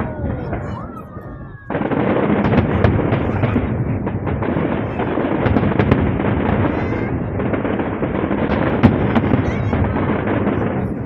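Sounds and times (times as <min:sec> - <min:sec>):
firework bursts and crackling: 0:00.0 - 0:11.0.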